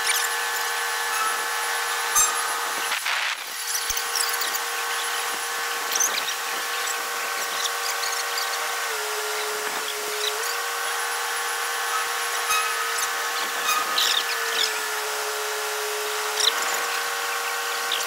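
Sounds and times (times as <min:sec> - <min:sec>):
crane engine and hydraulics whining: 0:00.0 - 0:18.0.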